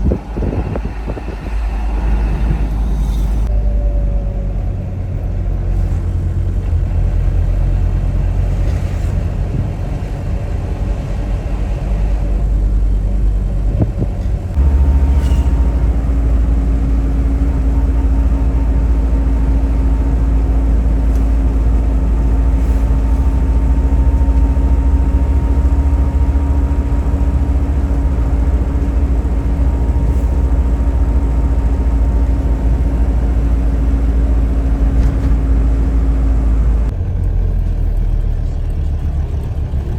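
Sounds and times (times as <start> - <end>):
wind rumble on microphone: 0.0 - 37.0
steady engine hum: 0.0 - 39.9.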